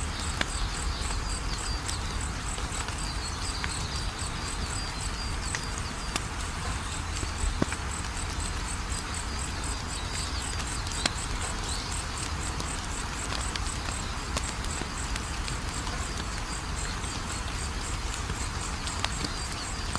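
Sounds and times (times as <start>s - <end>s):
insect chirping: 0.0s - 19.9s
low background noise: 0.0s - 19.9s
wood fire crackling and popping: 0.0s - 19.9s.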